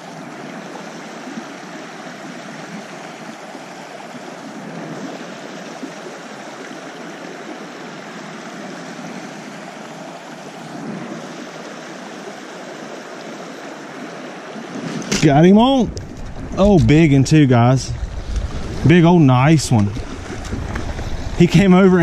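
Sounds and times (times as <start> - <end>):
creek water rushing over stones: 0.0 - 22.0.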